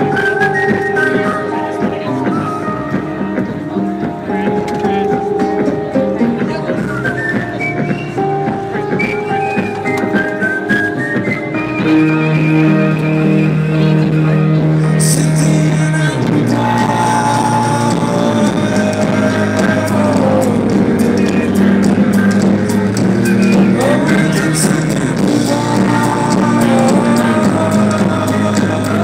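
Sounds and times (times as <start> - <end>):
amplified live band music: 0.0 - 29.0.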